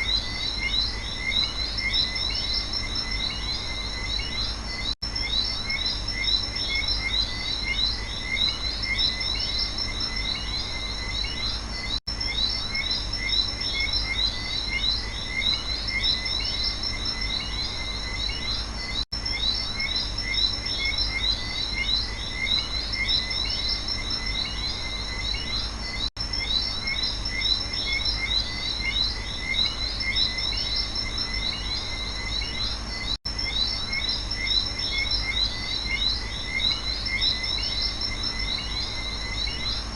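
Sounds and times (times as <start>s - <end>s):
frogs and insects chirping: 0.0s - 39.9s.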